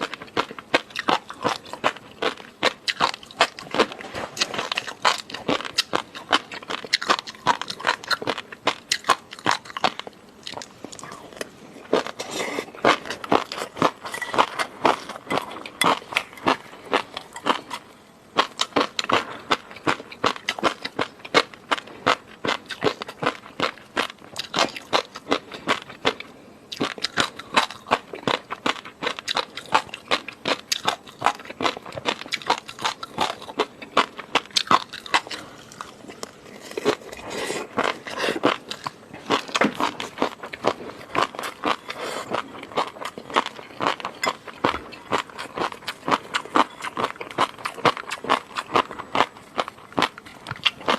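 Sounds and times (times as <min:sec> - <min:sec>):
person chewing noodles: 0:00.0 - 0:50.9.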